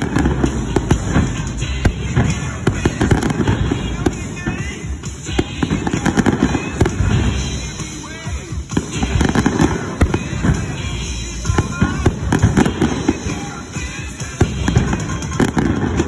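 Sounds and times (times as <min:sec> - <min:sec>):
fireworks booms and pops: 0:00.0 - 0:16.0
music playing: 0:00.0 - 0:16.0.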